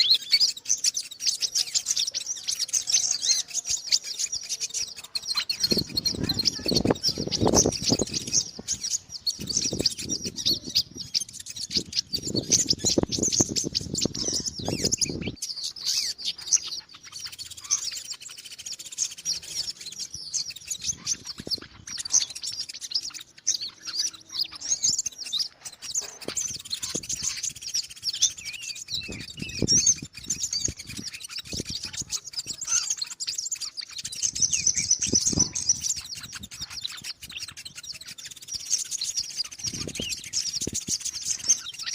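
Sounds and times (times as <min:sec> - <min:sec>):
sunbird chirping and twittering: 0:00.0 - 0:41.9.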